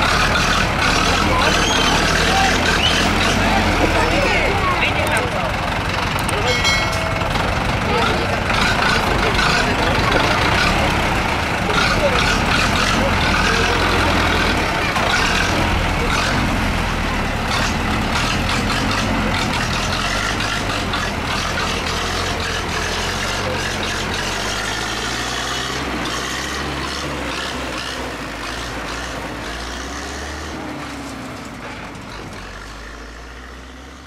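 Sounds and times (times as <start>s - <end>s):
crowd voices: 0.0s - 33.7s
tractor diesel engine running: 0.0s - 34.0s.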